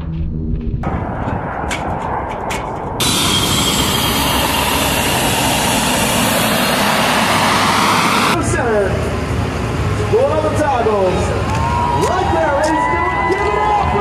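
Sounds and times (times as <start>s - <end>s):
aircraft engine rushing: 0.4s - 14.0s.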